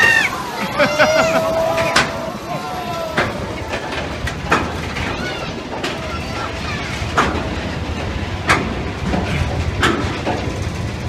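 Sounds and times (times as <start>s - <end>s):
roller coaster rumble: 0.0s - 11.0s
roller coaster track clacks: 0.0s - 11.0s.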